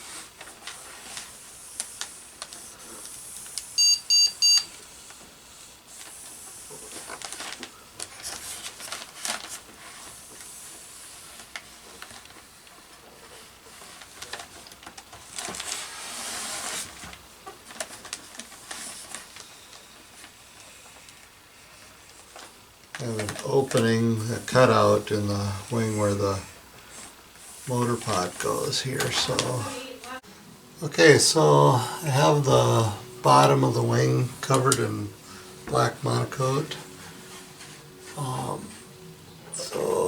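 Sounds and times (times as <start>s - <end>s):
plastic film crinkling: 5.9s - 30.2s, 31.3s - 39.1s.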